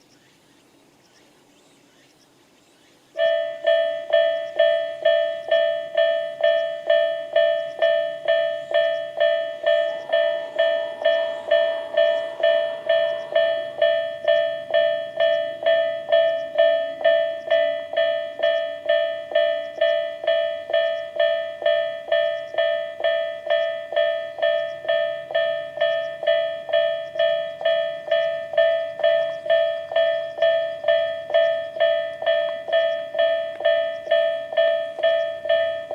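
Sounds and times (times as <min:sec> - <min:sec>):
level crossing warning bell: 0:03.2 - 0:35.9.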